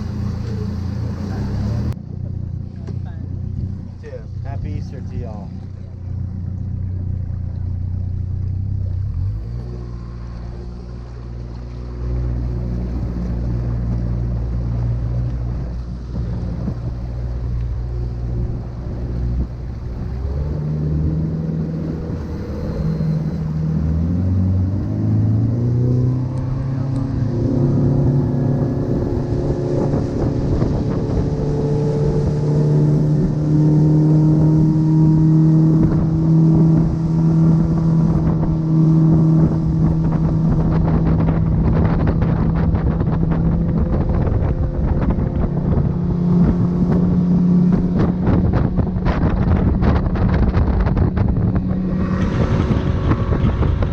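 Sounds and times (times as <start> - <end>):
outboard motor running: 0.0 - 53.9
wind on microphone: 8.6 - 53.9.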